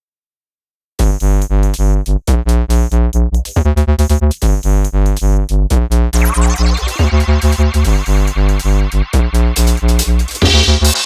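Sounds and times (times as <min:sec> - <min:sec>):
synthesizer chords over bass beat: 0:01.0 - 0:11.0.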